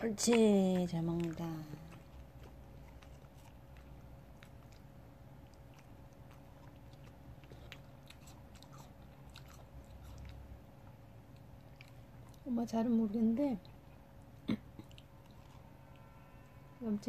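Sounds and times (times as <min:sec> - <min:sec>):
dog chewing food: 0:00.0 - 0:16.1.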